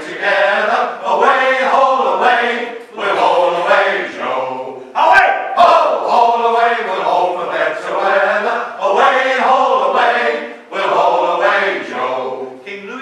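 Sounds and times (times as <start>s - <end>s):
male choir singing unaccompanied: 0.0s - 13.0s.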